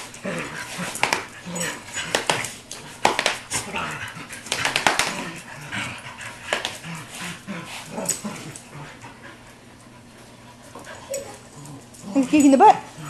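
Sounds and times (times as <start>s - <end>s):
dogs making low vocal sounds: 0.0s - 13.0s
dogs scuffling on tile floor: 0.0s - 13.0s.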